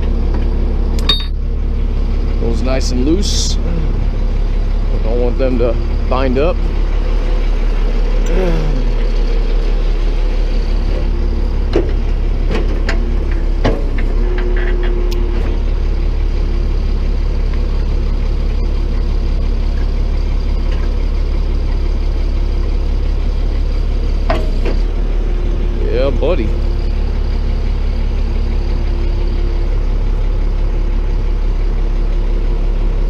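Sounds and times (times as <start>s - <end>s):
tow truck engine idling: 0.0s - 33.0s.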